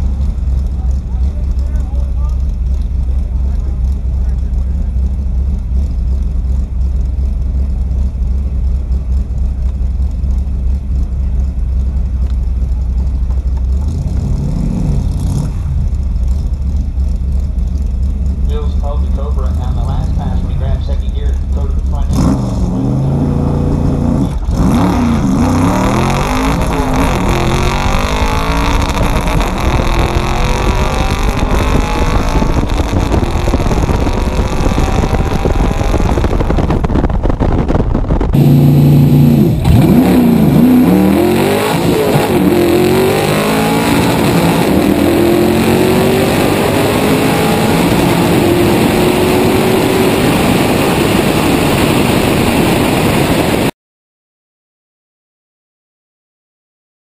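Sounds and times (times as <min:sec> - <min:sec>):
car engine at full throttle: 0:00.0 - 0:53.7.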